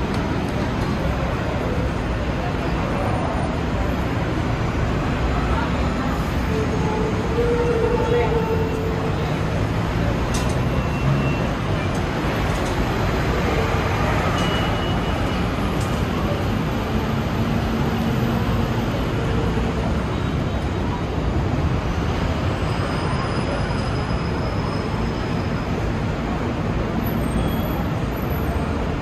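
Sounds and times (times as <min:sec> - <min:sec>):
urban vehicle rumble and hiss: 0:00.0 - 0:29.0.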